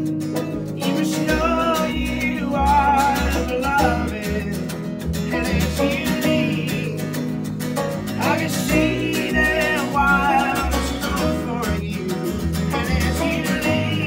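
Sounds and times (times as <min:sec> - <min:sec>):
acoustic guitar strumming: 0:00.0 - 0:14.0
man singing: 0:00.8 - 0:07.4, 0:08.2 - 0:14.0.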